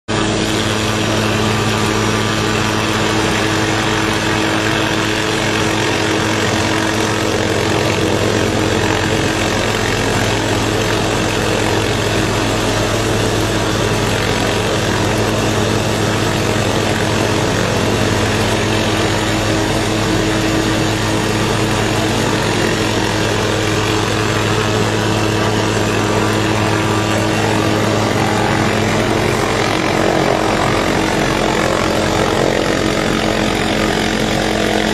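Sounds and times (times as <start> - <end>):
helicopter hovering: 0.1 - 34.9.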